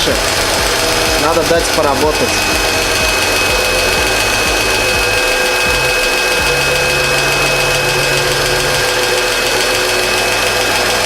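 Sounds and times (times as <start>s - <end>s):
car engine idling: 0.0s - 11.0s
hydraulic lifter ticking: 0.0s - 11.0s.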